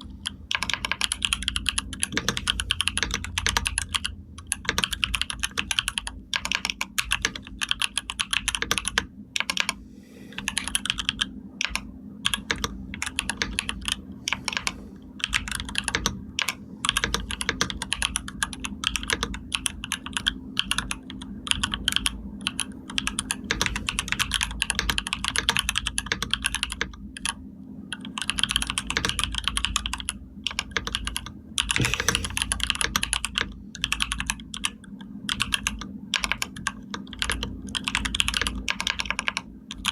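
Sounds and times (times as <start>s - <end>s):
computer keyboard typing: 0.0s - 39.9s
faint low hum: 0.0s - 39.9s.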